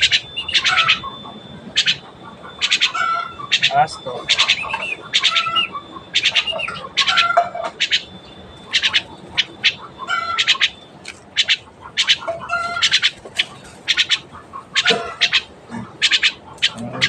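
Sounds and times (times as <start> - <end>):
bird chirping and squawking: 0.0 - 17.0.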